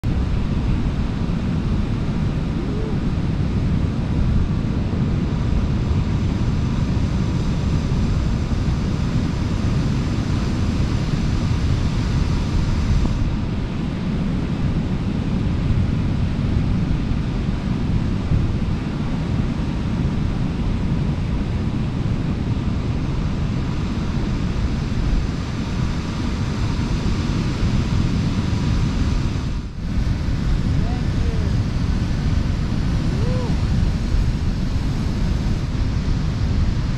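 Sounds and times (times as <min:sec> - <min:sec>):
steady surf: 0:00.0 - 0:36.9
wind on microphone: 0:00.0 - 0:36.9.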